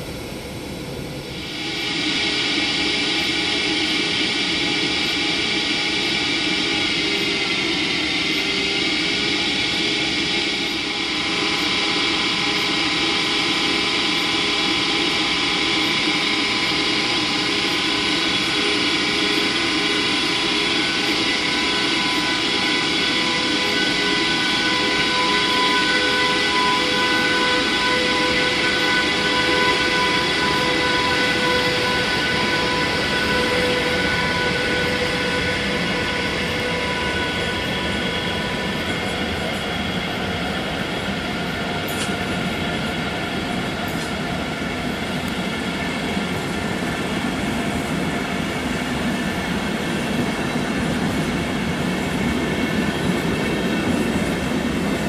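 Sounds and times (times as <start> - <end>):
electric locomotive whine: 0.0 - 55.0
pulsing locomotive tones: 0.0 - 55.0.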